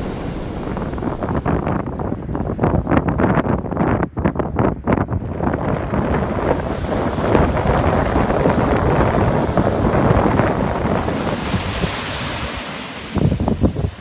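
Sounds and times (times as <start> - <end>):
wind buffeting microphone: 0.0 - 14.0
sea waves breaking on shore: 0.8 - 14.0.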